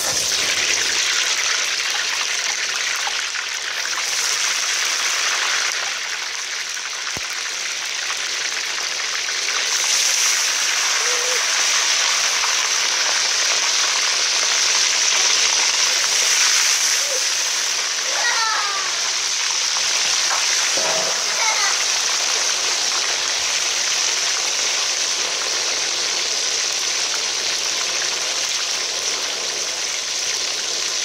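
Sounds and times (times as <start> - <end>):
fish sizzling in hot oil: 0.0 - 31.0.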